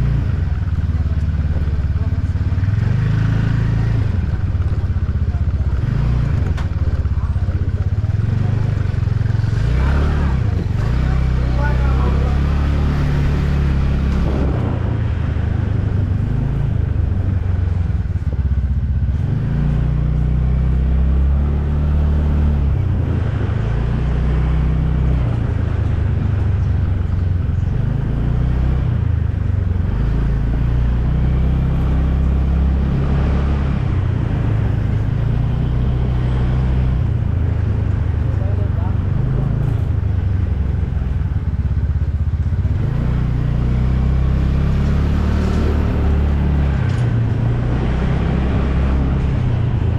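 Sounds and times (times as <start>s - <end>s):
motorcycle engine: 0.0s - 49.9s
road noise: 0.0s - 49.9s
wind rumble on microphone: 0.0s - 49.9s.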